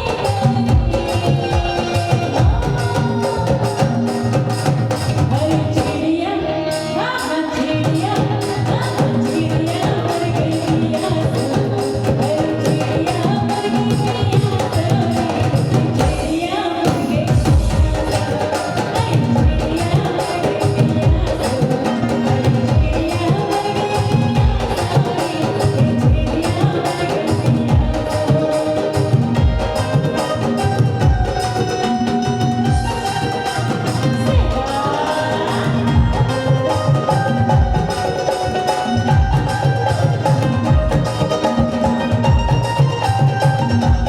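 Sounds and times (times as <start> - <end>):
jingling percussion: 0.0 - 6.1, 6.7 - 44.0
hand drums beating: 0.0 - 6.2, 7.0 - 44.0
person singing: 0.0 - 44.0.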